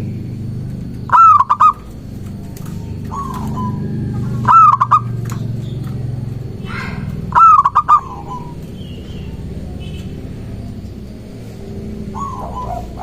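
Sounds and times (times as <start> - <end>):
dove cooing: 0.0 - 13.0
steady low hum: 0.0 - 13.0.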